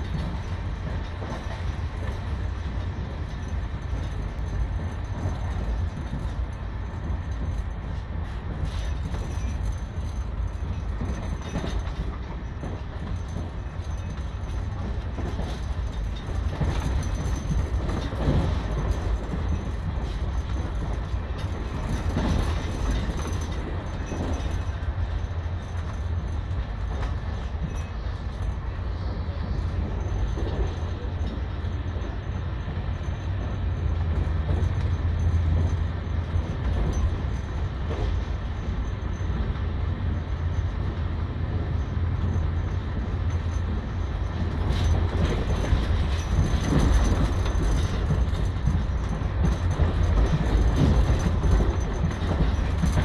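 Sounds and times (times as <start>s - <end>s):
train clatters: 0.0s - 53.0s
train wheels rumbling on rail: 0.0s - 53.0s.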